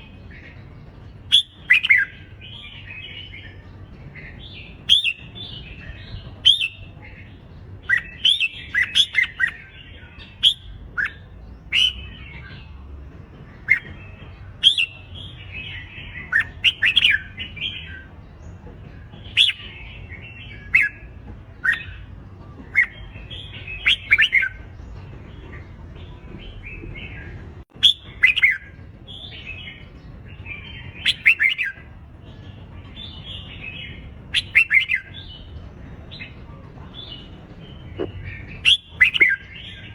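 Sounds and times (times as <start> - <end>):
bulbuls warbling song: 0.0 - 39.9.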